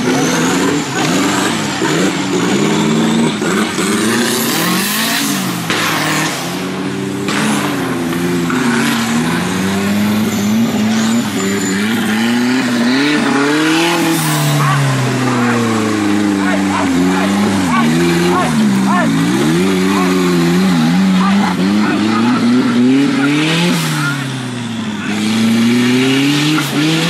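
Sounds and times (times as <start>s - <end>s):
buggy engine revving hard: 0.0s - 27.0s.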